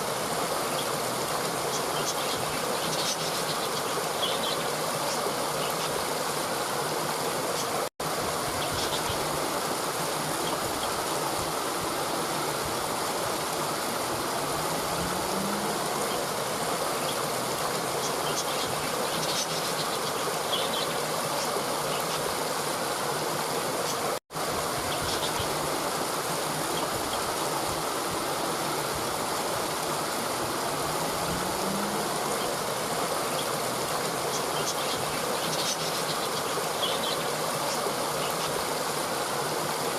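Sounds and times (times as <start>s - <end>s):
rushing stream water: 0.0s - 39.9s.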